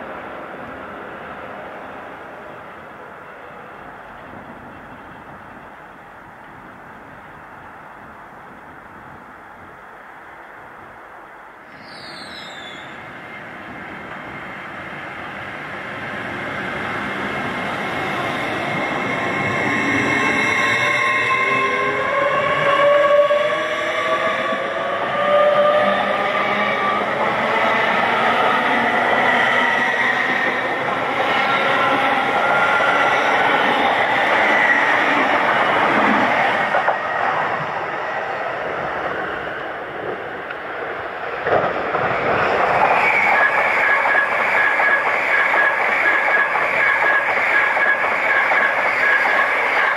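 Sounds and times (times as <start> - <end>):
train running noise: 0.0 - 49.9.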